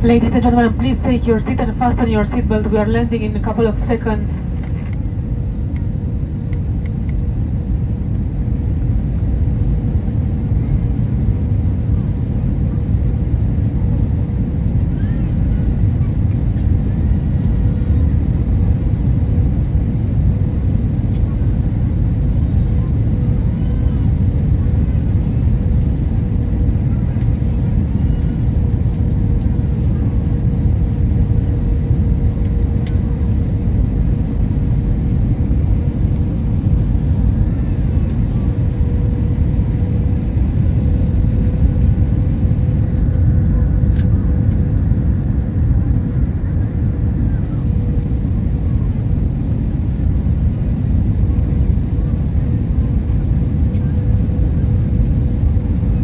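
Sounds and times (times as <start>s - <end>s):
airliner cabin engine rumble: 0.0s - 56.0s
constant hum: 0.0s - 56.0s.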